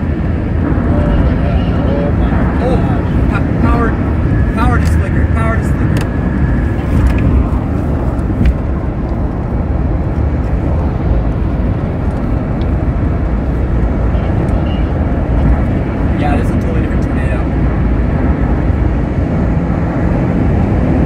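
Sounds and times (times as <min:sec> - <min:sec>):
vehicle road and engine rumble: 0:00.0 - 0:21.0.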